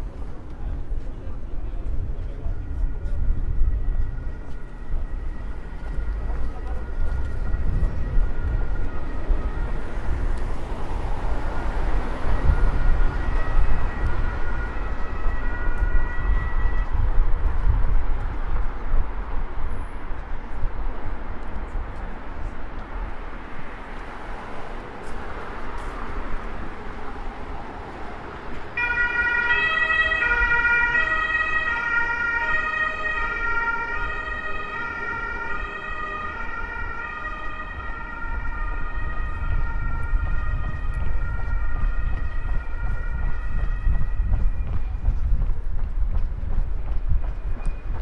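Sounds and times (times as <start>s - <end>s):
city street traffic: 0.0s - 48.0s
two-tone emergency siren: 0.7s - 20.5s, 23.4s - 45.3s.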